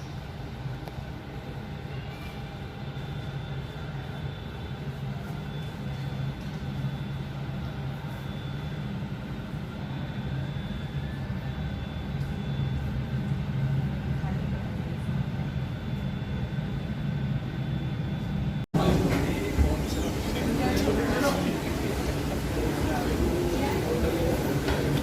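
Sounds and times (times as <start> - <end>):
faint high whine: 0.0 - 25.0
low mechanical hum: 0.0 - 25.0.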